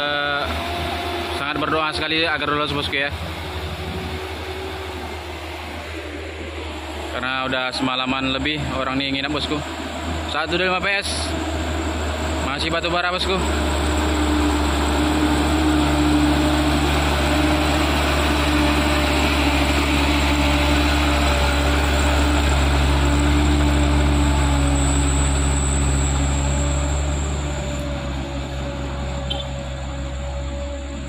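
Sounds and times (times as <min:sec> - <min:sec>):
diesel truck engine droning: 0:00.0 - 0:31.0.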